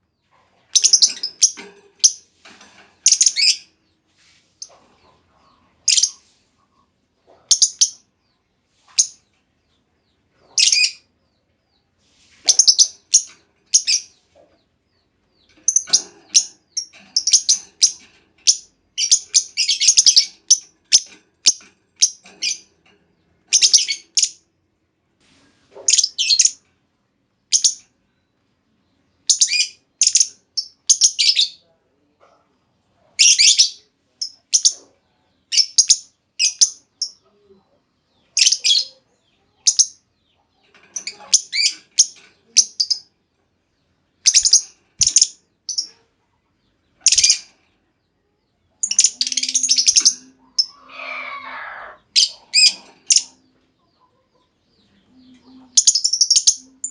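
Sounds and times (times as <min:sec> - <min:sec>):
lovebird chirping: 0:00.0 - 0:02.2, 0:03.0 - 0:04.0, 0:04.6 - 0:11.8, 0:12.4 - 0:22.7, 0:23.5 - 0:24.4, 0:25.8 - 0:26.7, 0:27.5 - 0:28.3, 0:29.2 - 0:31.7, 0:33.2 - 0:43.1, 0:44.2 - 0:47.6, 0:48.2 - 0:56.9.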